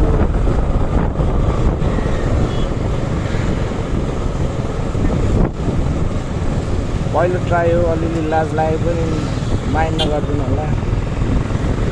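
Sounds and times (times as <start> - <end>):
motorcycle engine rumble: 0.0 - 11.9
wind rushing over microphone: 0.0 - 11.9.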